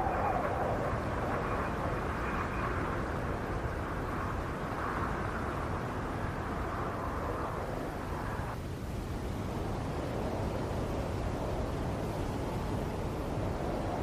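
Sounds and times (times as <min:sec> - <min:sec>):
howling snowstorm wind: 0:00.0 - 0:14.0.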